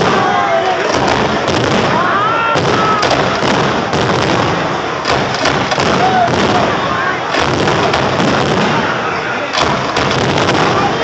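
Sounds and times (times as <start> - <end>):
firework crackling: 0.0 - 11.0
firework shells bursting: 0.0 - 11.0.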